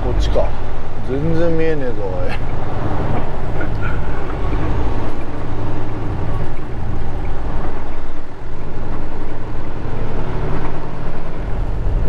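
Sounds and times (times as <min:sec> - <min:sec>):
road noise: 0:00.0 - 0:12.0
truck diesel engine rumble: 0:00.0 - 0:12.0.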